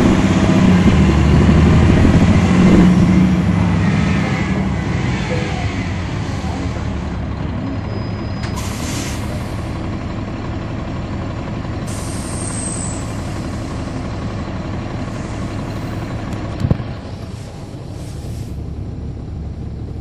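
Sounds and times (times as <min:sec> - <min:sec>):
bus diesel engine rumbling: 0:00.0 - 0:20.0.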